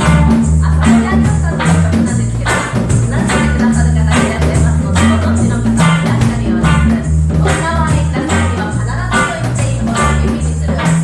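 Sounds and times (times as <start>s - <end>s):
bass line: 0.0s - 11.0s
live reggae band: 0.0s - 11.0s
percussion beat: 0.0s - 11.0s
person singing: 0.0s - 11.0s.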